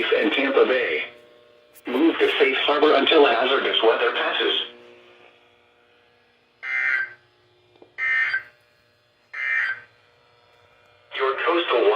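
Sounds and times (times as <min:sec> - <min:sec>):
buzzy digital data bursts: 0:00.0 - 0:11.9.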